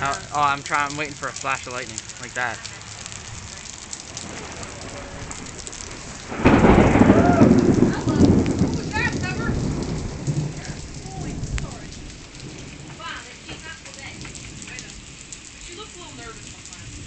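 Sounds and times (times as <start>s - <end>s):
heavy rain pouring: 0.0s - 17.0s
thunder rumbling: 0.0s - 17.0s.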